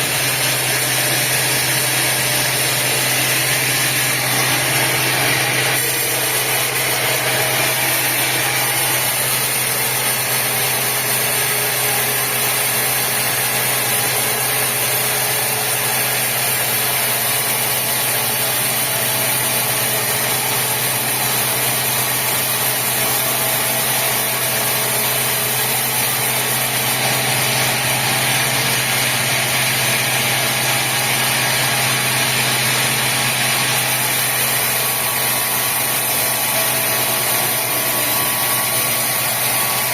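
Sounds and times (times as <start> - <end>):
sawmill machinery hum and hiss: 0.0 - 39.9.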